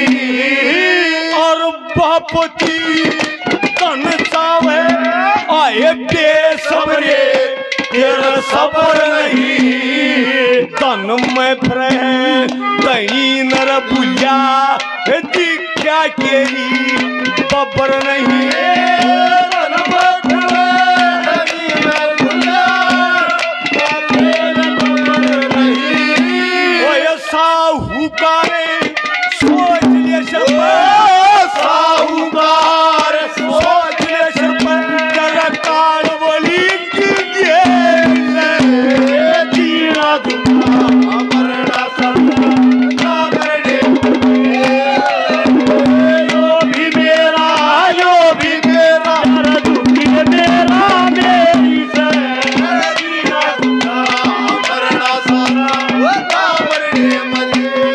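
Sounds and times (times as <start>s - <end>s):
folk melody over a drone: 0.0s - 57.9s
hand drums fast beat: 0.0s - 57.9s.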